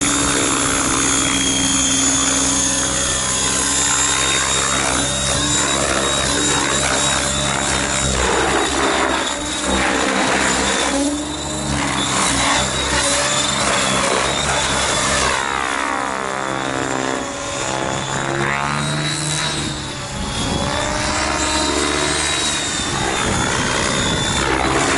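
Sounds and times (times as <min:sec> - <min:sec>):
model helicopter rotor drone: 0:00.0 - 0:24.9
motor and gear whine: 0:00.0 - 0:24.9.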